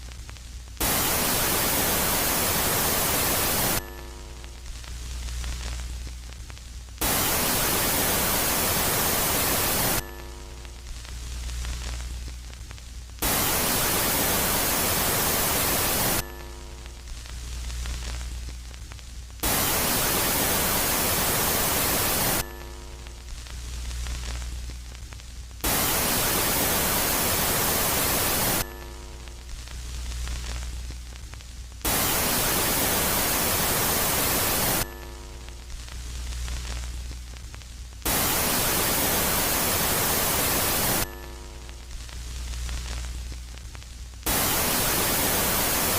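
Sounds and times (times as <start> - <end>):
loud static hiss: 0.0 - 45.9.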